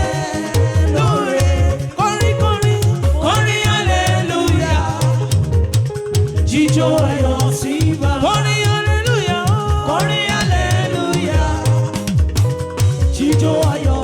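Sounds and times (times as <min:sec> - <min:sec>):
live gospel band music: 0:00.0 - 0:14.0.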